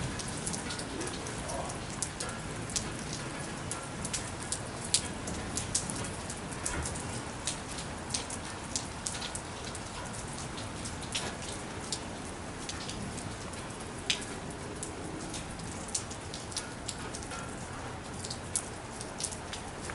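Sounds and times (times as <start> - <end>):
light rain falling: 0.0 - 19.9
raindrops tapping: 0.0 - 19.9.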